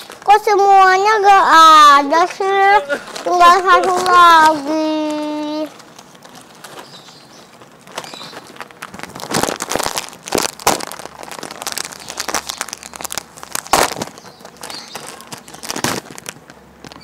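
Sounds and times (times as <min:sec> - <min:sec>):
foil snack packets crinkling: 0:00.0 - 0:00.8, 0:02.8 - 0:17.0.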